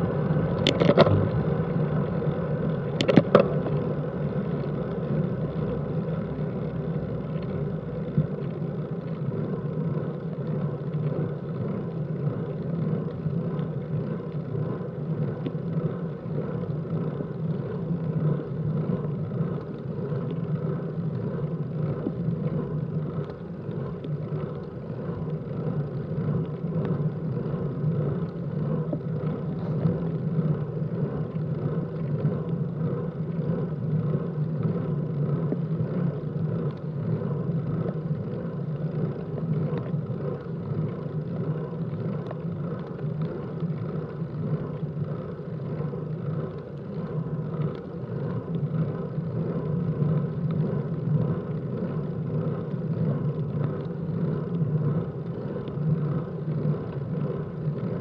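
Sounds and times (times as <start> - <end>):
bike tyres on wet road: 0.0 - 58.0.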